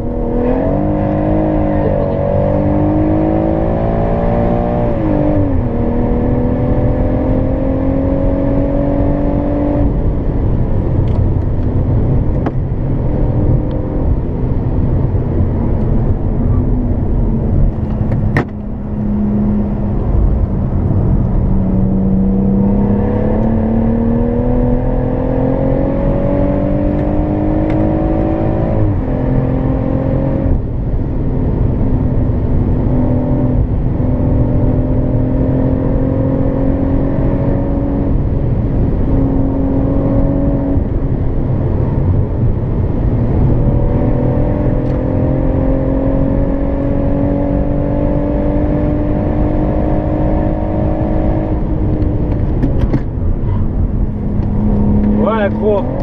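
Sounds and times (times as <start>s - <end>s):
car engine accelerating hard: 0.0s - 56.0s
tyre and road noise: 0.0s - 56.0s.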